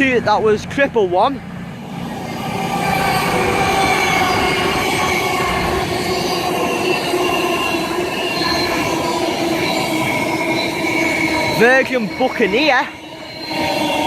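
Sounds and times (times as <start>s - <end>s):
train wheels rumbling on rail: 0.0s - 14.0s
high squeal of wheels: 1.9s - 14.0s.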